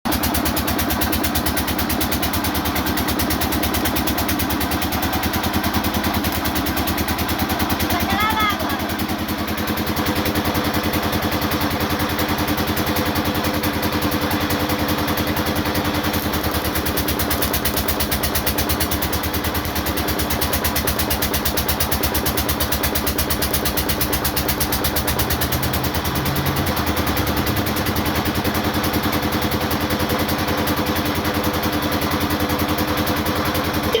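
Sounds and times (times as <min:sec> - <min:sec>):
welding machine buzzing: 0:00.2 - 0:31.2.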